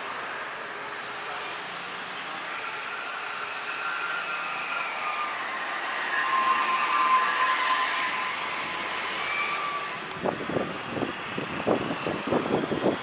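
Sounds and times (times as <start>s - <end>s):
jet engines rushing: 1.2s - 13.0s.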